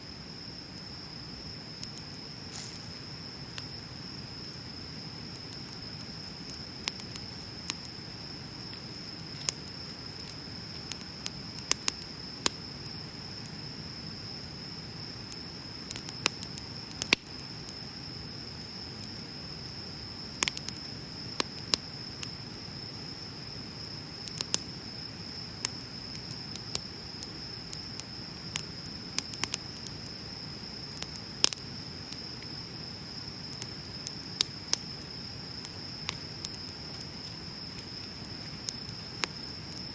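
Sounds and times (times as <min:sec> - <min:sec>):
crickets trilling: 0:00.0 - 0:39.9
bonfire crackling and popping: 0:00.1 - 0:39.9.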